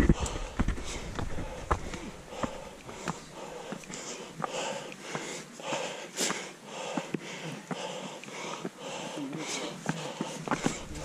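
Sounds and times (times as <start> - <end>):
person panting heavily: 0.0 - 11.0
shoes clicking on stones: 0.0 - 11.0.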